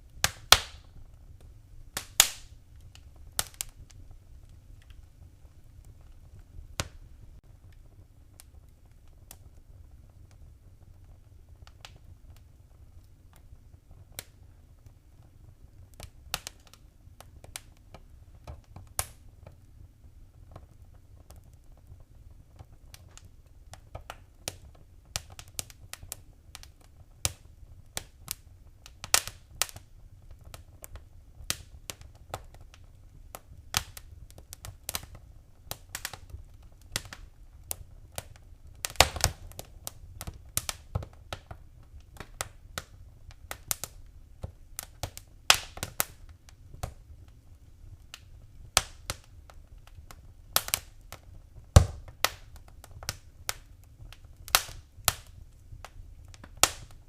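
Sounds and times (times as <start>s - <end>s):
fire crackling and popping: 0.0s - 57.0s
low steady fire rumble: 0.0s - 57.0s.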